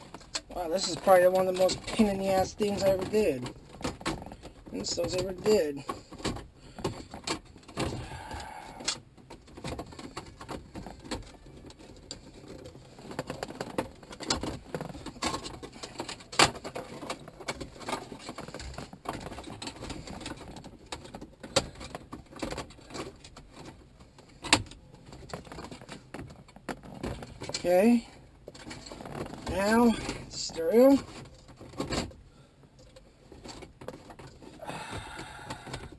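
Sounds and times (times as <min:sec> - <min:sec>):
hardware clicks and rattles: 0:00.0 - 0:35.9.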